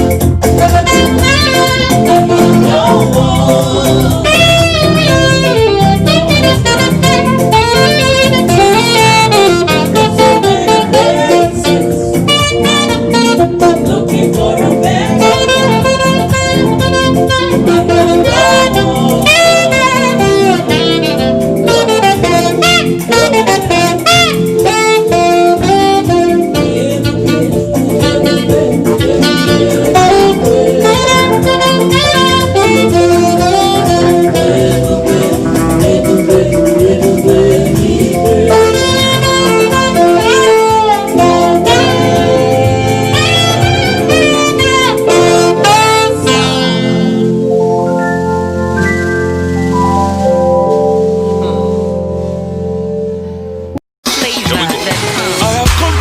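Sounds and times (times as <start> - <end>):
band with guitar and drums: 0.0 - 52.3, 54.0 - 56.0
saxophone solo: 0.0 - 53.8.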